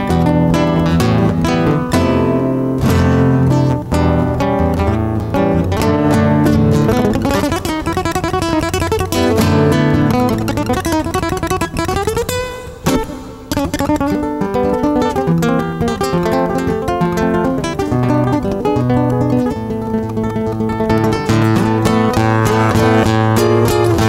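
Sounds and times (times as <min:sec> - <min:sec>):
fingerstyle classical guitar: 0:00.0 - 0:24.0.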